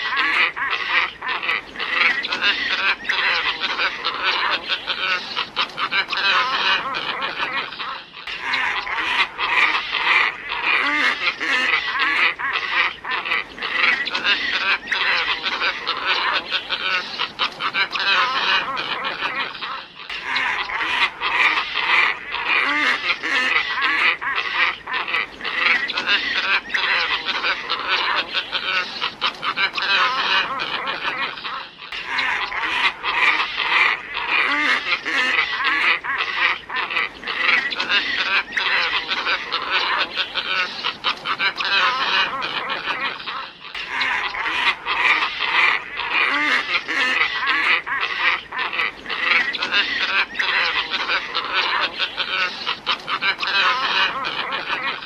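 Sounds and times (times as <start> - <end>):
flock of ibises calling: 0.0 - 55.0.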